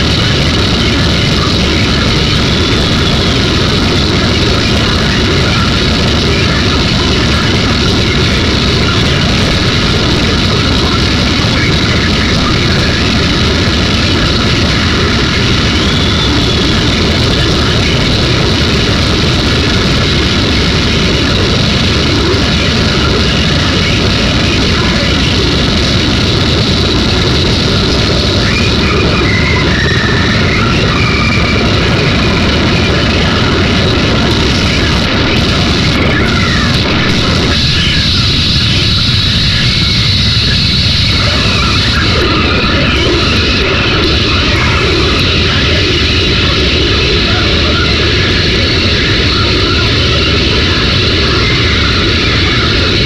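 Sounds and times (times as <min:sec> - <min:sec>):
harsh noise music: 0:00.0 - 0:53.0.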